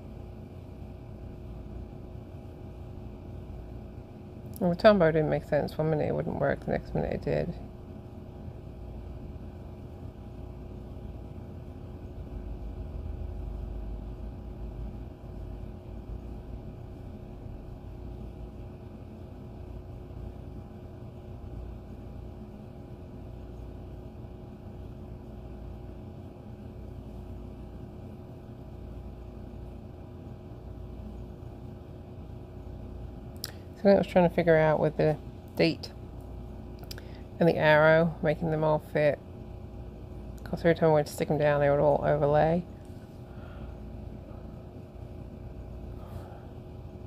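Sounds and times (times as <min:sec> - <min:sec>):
faint constant tones: 0:00.0 - 0:47.0
low hum and rumble: 0:00.0 - 0:47.0.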